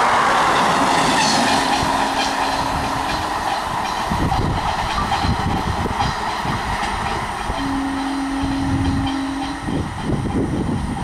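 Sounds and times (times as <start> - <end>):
train wheels clattering: 0.0 - 11.0.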